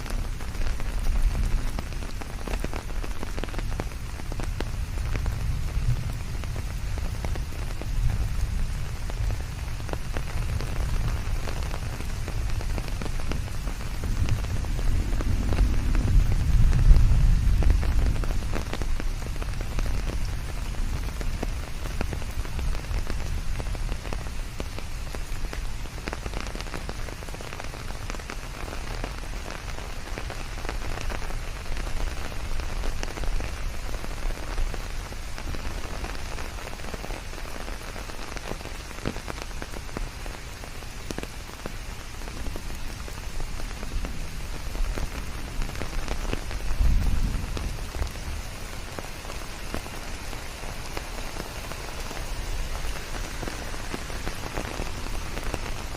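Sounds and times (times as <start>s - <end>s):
rain on leaves: 0.0s - 55.9s.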